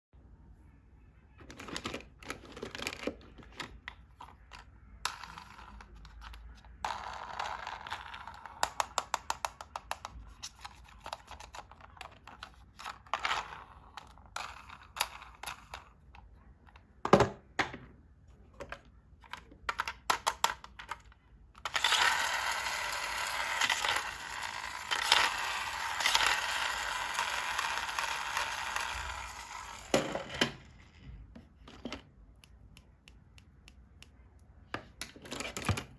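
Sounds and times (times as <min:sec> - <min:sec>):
plastic pieces clicking and tapping: 0:01.5 - 0:17.4, 0:18.6 - 0:35.9.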